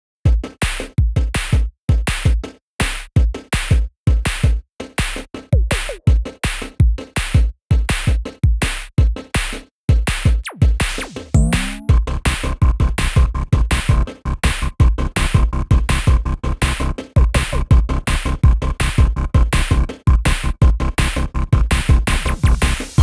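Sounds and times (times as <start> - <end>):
electronic music with drum-machine beat: 0.3 - 23.0.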